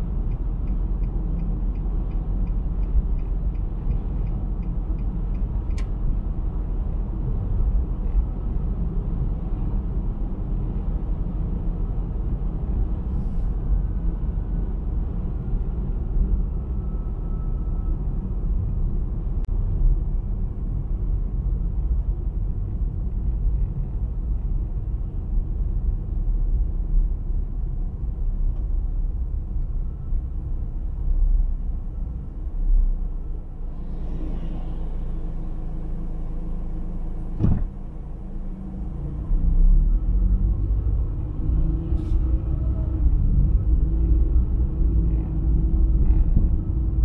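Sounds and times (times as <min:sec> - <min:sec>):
car road noise rumble: 0:00.0 - 0:47.0.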